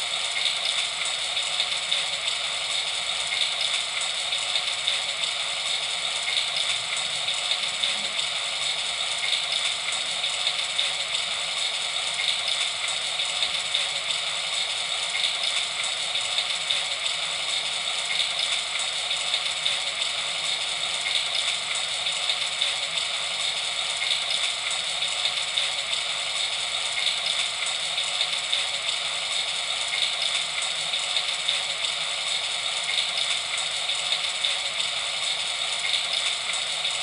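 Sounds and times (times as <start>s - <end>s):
steady rain falling: 0.1s - 37.0s.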